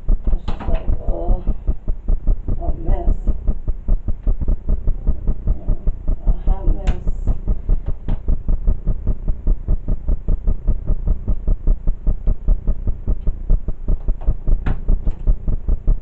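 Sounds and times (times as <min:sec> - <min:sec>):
low throbbing hum: 0:00.0 - 0:16.0.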